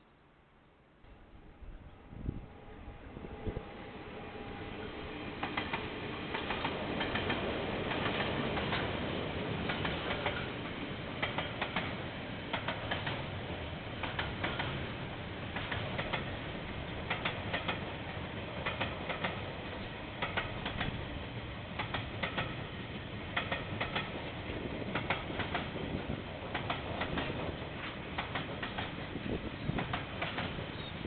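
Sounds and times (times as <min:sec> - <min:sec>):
train wheels clicking over rail joints: 0:05.3 - 0:31.0.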